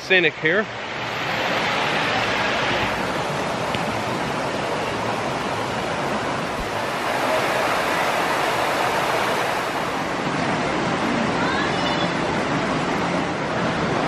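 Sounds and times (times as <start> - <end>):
creek water rushing over rocks: 0.0 - 14.0.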